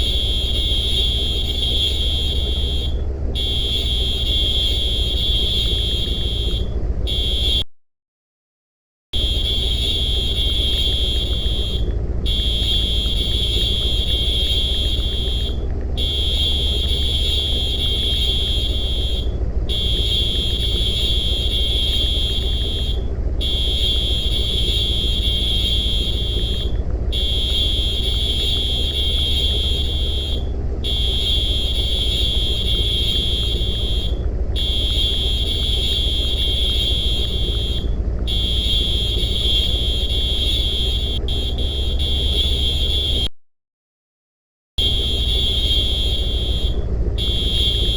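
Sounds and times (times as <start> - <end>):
steady low rumble: 0.0 - 7.6, 9.2 - 43.3, 44.8 - 47.9
shrill electronic alarm beeps: 0.0 - 7.7, 9.2 - 43.3, 44.8 - 47.9.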